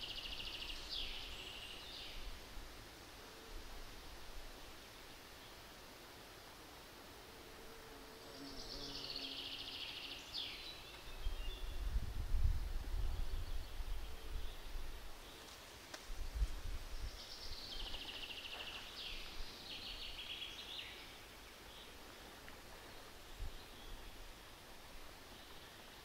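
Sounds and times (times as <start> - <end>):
faint background hiss: 0.0 - 26.0.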